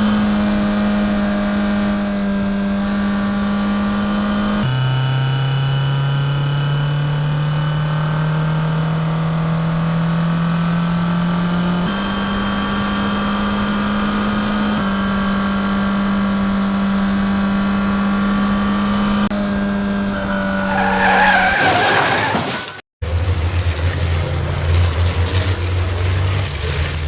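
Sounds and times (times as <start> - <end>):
car engine humming: 0.0 - 22.8.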